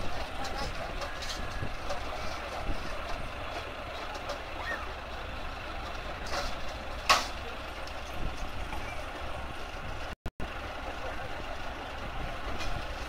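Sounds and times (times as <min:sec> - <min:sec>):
diesel machinery engine running: 0:00.0 - 0:13.0.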